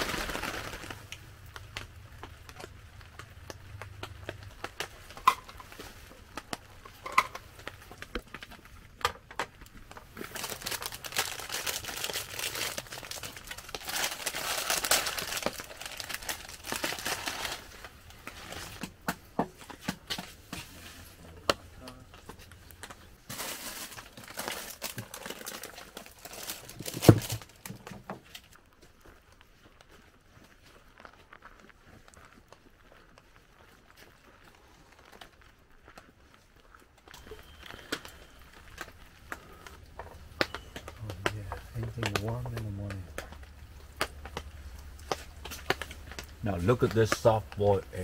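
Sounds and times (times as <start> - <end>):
plastic packets crinkling and tearing: 0.0 - 19.0, 19.6 - 48.0.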